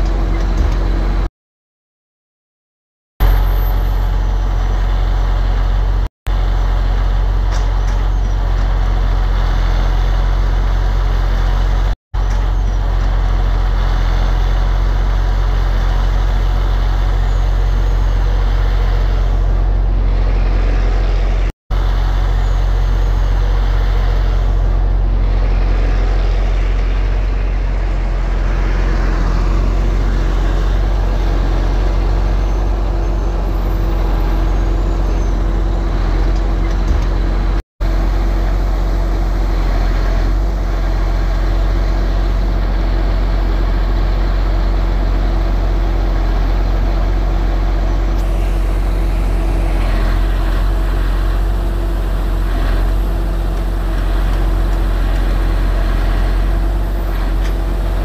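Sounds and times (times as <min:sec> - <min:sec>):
diesel truck engine rumbling: 0:00.0 - 0:01.3, 0:03.2 - 0:58.0.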